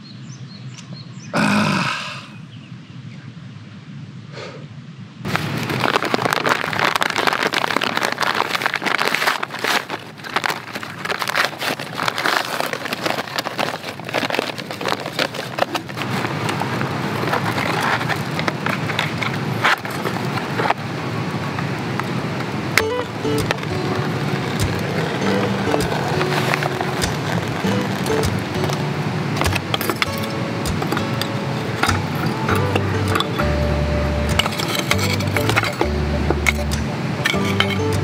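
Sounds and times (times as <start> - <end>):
charcoal pieces clinking: 5.3 - 20.7, 22.8 - 38.0
paper sack rustling: 5.3 - 22.1, 22.7 - 38.0.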